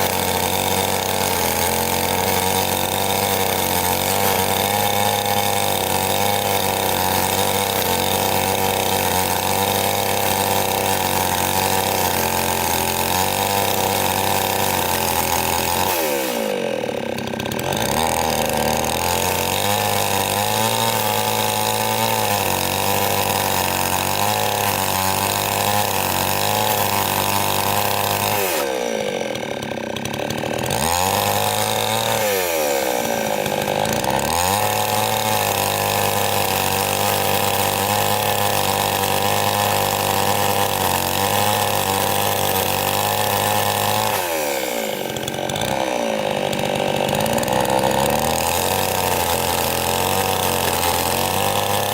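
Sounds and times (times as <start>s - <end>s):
chainsaw engine running hard: 0.0s - 51.9s.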